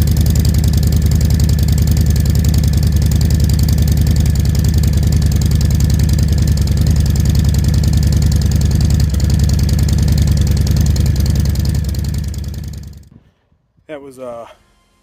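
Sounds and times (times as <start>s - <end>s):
motorcycle engine idling: 0.0s - 13.1s.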